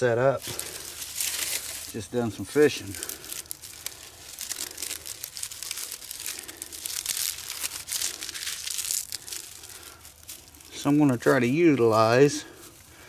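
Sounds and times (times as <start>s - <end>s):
dry grass rustling by hand: 0.1s - 13.0s.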